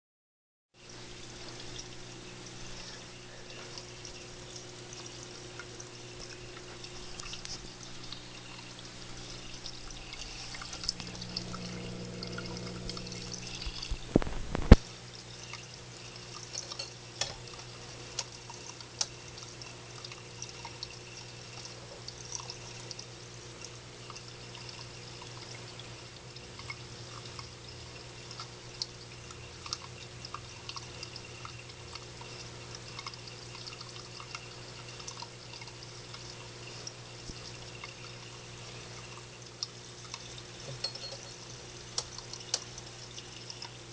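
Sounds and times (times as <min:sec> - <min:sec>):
steady low hum: 0:00.8 - 0:43.9
water drips: 0:00.8 - 0:43.9.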